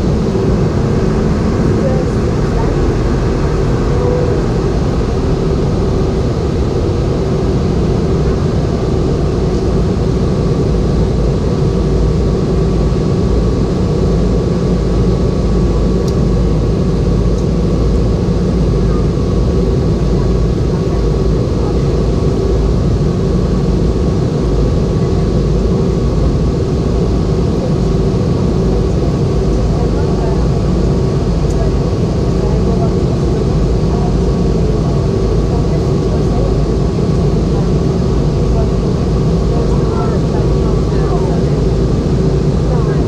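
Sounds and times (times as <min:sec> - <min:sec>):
airplane cabin noise: 0:00.0 - 0:43.0.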